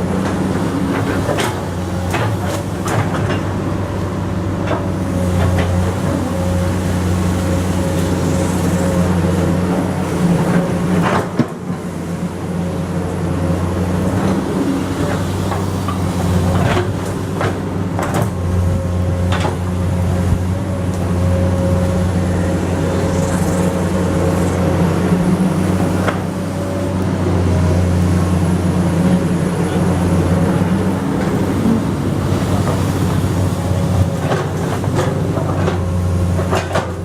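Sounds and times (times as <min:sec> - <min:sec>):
excavator diesel engine under load: 0:00.0 - 0:37.0.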